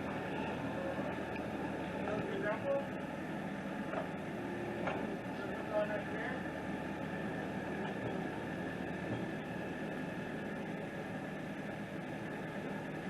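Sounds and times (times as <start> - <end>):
constant high whine: 0.0 - 13.0
heavy equipment engine running: 0.0 - 13.0.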